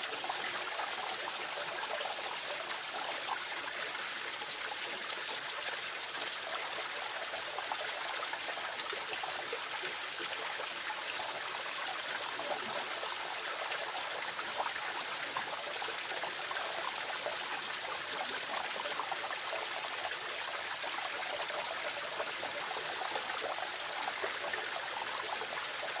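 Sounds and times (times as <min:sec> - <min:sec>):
stream babbling over pebbles: 0:00.0 - 0:26.0.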